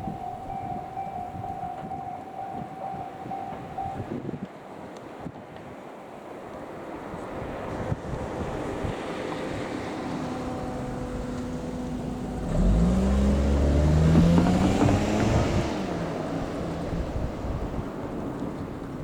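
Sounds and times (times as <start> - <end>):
diesel train passing: 0.0 - 5.2, 5.8 - 19.0
wind rumbling on microphone: 0.0 - 19.0.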